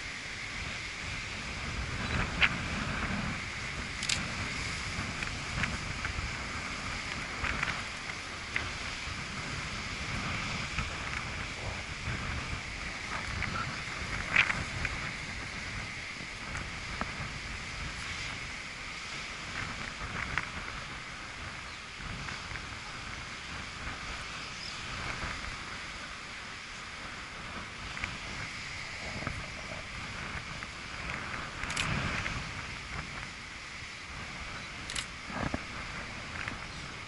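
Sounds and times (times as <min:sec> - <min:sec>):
ocean surf rumbling: 0:00.0 - 0:37.0
wind on microphone: 0:00.0 - 0:37.0.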